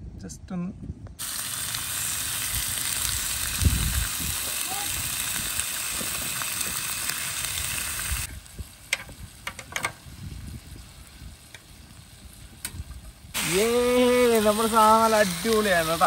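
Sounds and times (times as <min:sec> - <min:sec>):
fish sizzling in hot oil: 0:01.2 - 0:16.0.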